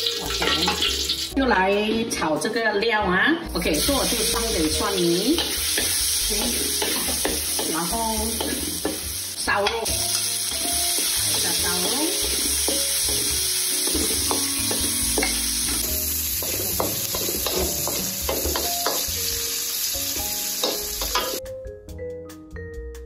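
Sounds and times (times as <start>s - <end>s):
meat sizzling in hot oil: 0.0s - 1.4s, 3.8s - 21.4s
vibraphone-like background music: 0.0s - 23.0s.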